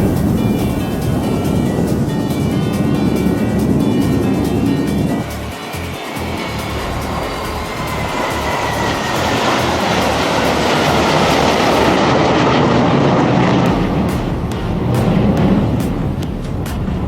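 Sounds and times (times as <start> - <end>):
jet fighter roaring past: 0.0 - 17.0.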